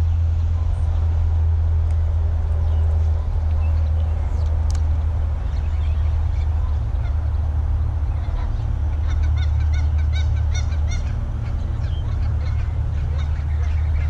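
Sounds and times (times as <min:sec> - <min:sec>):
bird calling: 0:00.0 - 0:14.0
wind buffeting microphone: 0:00.0 - 0:14.0.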